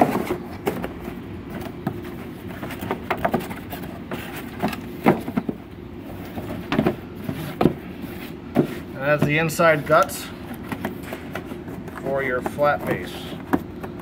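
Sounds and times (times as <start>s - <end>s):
cardboard knocks and scrapes: 0.0s - 14.0s
low room hum: 0.0s - 14.0s.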